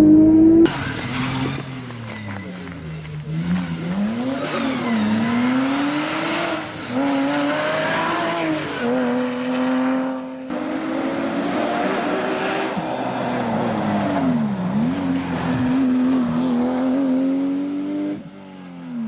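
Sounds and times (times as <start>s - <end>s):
race car engine with gear changes: 0.0s - 19.0s.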